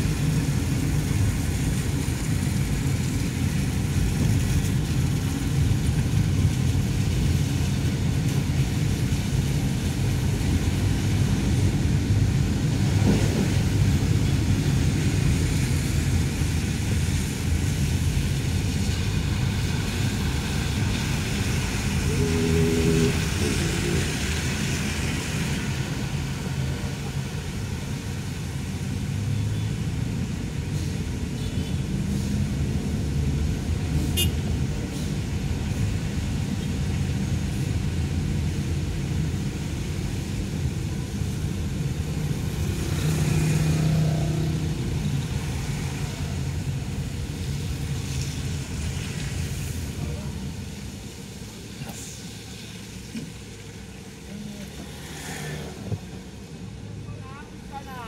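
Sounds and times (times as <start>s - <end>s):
car engine and road rumble: 0.0s - 58.0s
tyres hissing on wet road: 0.0s - 58.0s.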